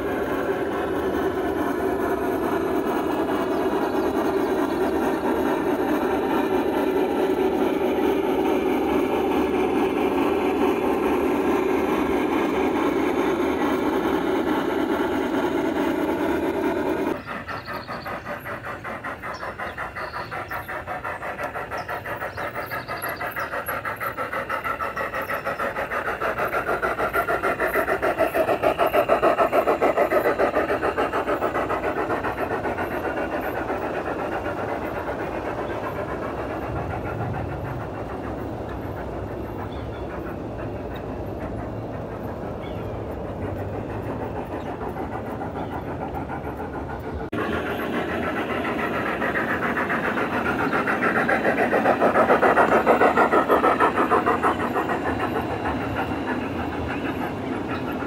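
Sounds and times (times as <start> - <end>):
freight cars rolling past: 0.0 - 58.0
model train running on track: 0.0 - 58.0.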